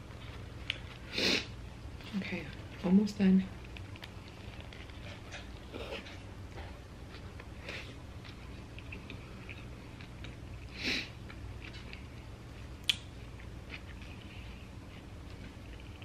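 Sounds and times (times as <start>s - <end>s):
person chewing: 0.1s - 1.6s, 3.6s - 16.0s.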